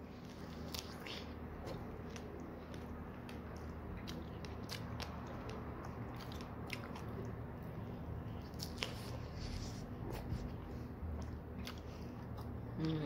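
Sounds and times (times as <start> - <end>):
chewing strawberries: 0.0 - 13.0
low steady hum: 0.0 - 13.0.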